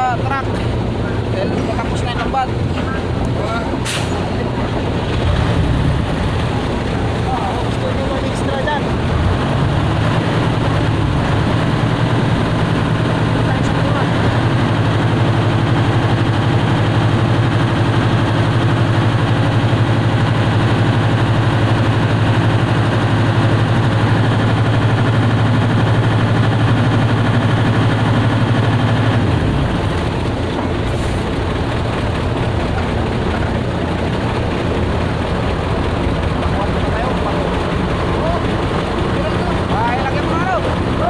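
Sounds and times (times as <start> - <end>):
heavy engine humming: 0.0 - 41.0.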